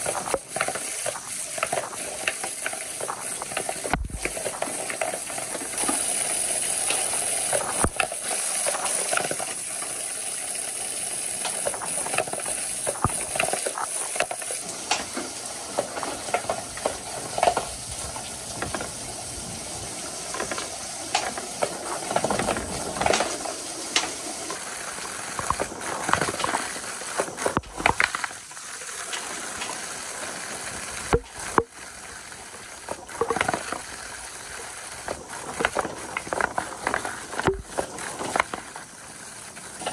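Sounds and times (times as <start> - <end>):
wooden balls clattering: 0.0 - 19.0, 20.2 - 29.8, 32.4 - 39.9
water rushing down gutters: 0.0 - 39.9.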